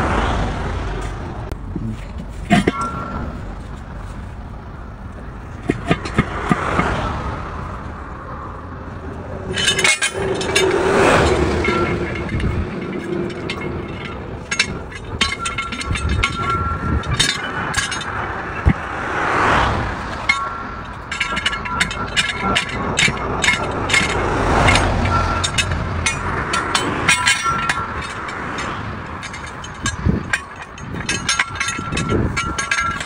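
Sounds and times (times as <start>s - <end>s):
vehicles passing on road: 0.0s - 33.0s
tire iron clinking on wheel rim: 1.0s - 33.0s.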